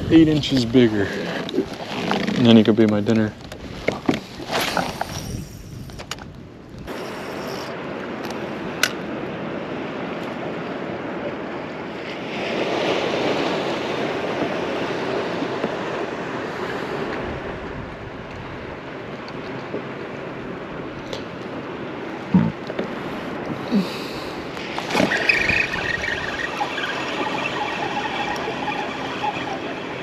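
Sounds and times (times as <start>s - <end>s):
wind on microphone: 0.0s - 2.4s, 3.3s - 11.3s, 12.2s - 18.8s, 22.2s - 30.0s
waves rushing: 0.0s - 6.0s, 6.9s - 30.0s.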